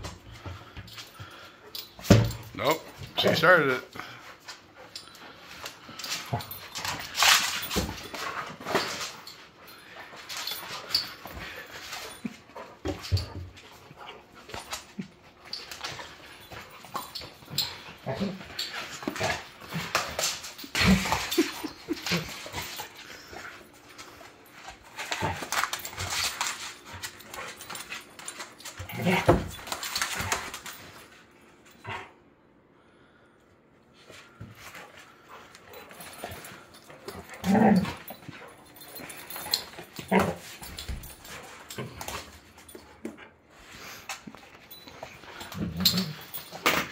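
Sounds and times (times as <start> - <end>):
puppies scuffling: 0.0 - 31.8, 34.0 - 46.9.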